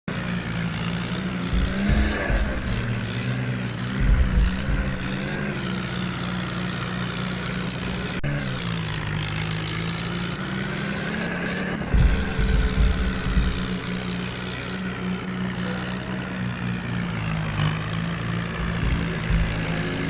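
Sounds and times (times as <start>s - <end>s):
diesel engine running: 0.1s - 20.0s.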